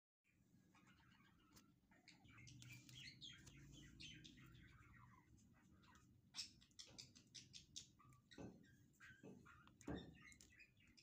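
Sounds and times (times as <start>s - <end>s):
faint birds chirping: 0.2s - 11.0s.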